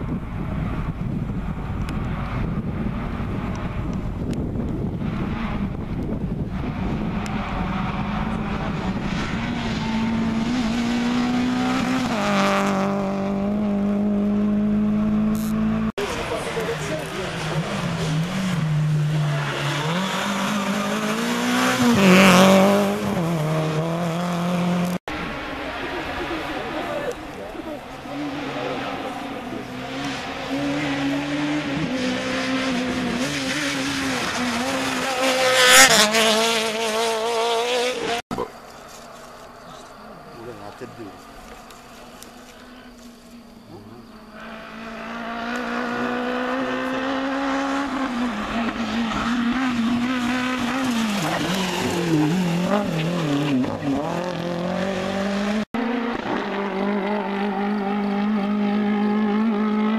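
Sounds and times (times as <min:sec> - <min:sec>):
rally car engine at high revs: 0:00.0 - 0:38.6, 0:39.7 - 0:59.9.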